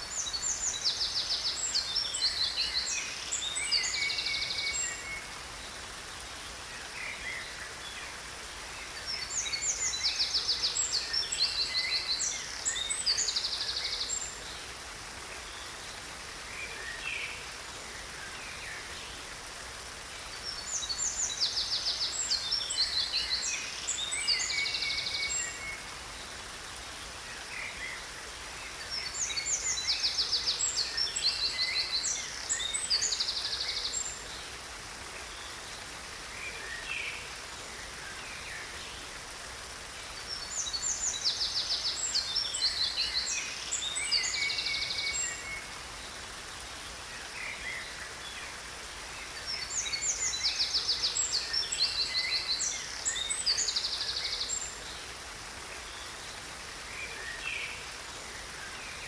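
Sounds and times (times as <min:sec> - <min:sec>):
songbirds chirping and trilling: 0:00.0 - 0:59.0
waterfall rushing: 0:00.0 - 0:59.0.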